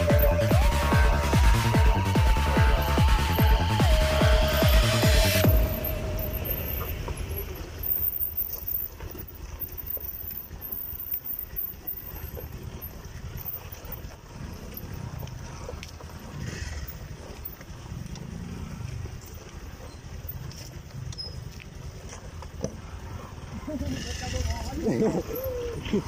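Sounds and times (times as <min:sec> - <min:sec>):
motorcycle engines at low revs: 0:00.0 - 0:26.0.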